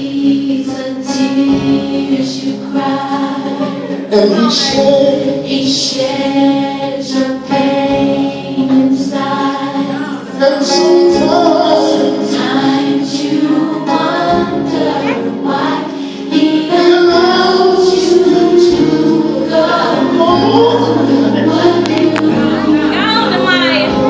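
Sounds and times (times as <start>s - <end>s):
gospel choir singing: 0.0s - 24.0s.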